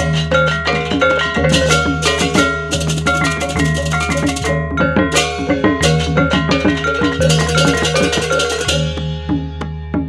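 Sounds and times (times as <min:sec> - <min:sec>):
cymbal crashes: 0:00.0 - 0:09.4
kettle gongs struck fast: 0:00.0 - 0:09.4
low hum of large gongs: 0:00.0 - 0:09.6.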